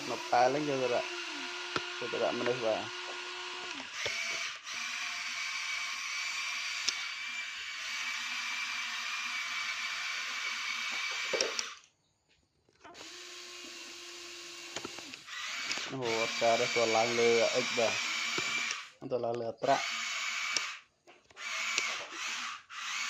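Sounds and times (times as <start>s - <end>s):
toy truck motor whining: 0.0s - 11.9s, 12.9s - 19.0s, 19.6s - 23.0s.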